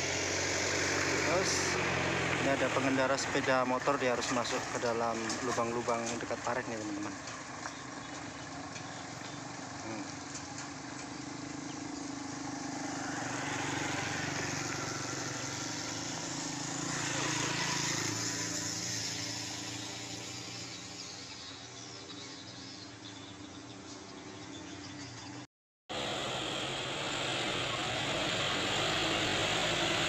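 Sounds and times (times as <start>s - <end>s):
motorcycles passing: 0.0s - 25.4s, 26.0s - 30.0s.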